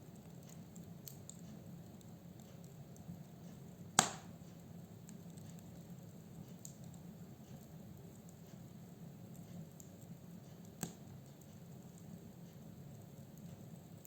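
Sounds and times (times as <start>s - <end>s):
burning log popping: 0.0s - 14.0s
low rumble of flame: 0.0s - 14.0s
wood fire crackling: 0.0s - 14.0s.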